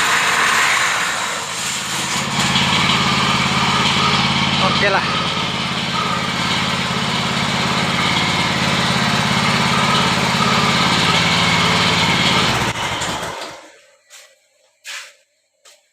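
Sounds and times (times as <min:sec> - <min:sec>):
engine running with fast pulse: 0:00.0 - 0:13.7.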